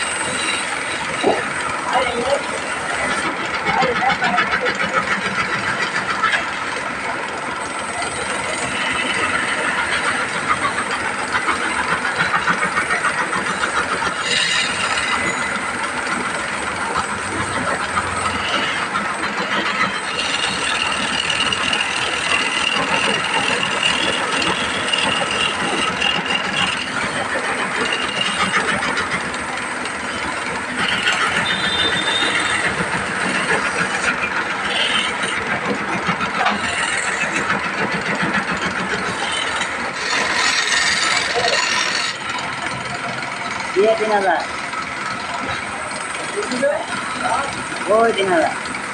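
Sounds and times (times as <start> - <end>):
machinery clattering and rattling: 0.0 - 48.9.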